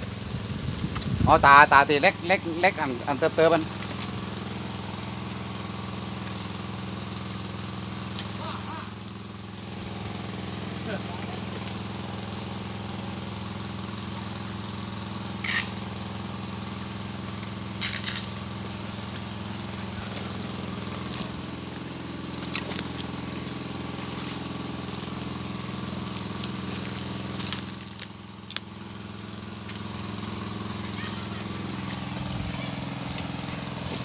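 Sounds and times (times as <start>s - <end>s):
small engine humming: 0.0s - 34.0s.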